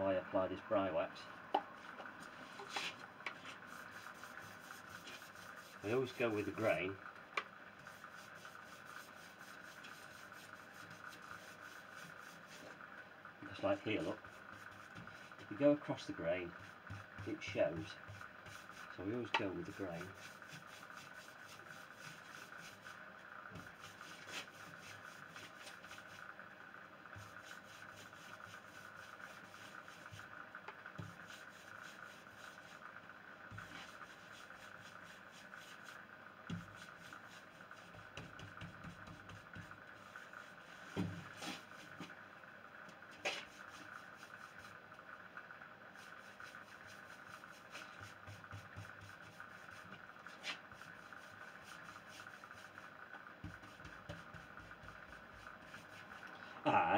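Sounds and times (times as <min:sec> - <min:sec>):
faint steady hum: 0:00.0 - 0:56.9
hand rubbing wax into wood: 0:01.6 - 0:07.0, 0:07.8 - 0:12.9, 0:13.5 - 0:26.3, 0:27.1 - 0:32.9, 0:33.5 - 0:42.2, 0:43.1 - 0:44.8, 0:45.9 - 0:56.4.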